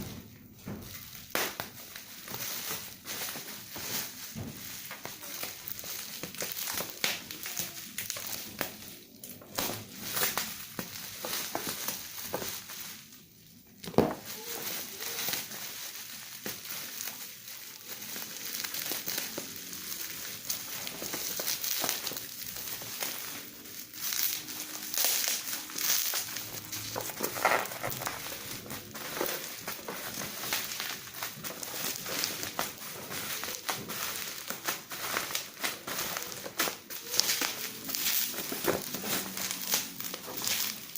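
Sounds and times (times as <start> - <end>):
packaging crinkling and rustling: 0.0 - 40.9.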